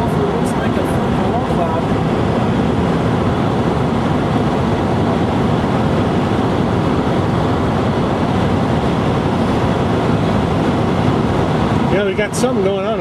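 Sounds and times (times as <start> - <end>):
road and wind noise in car: 0.0 - 13.0.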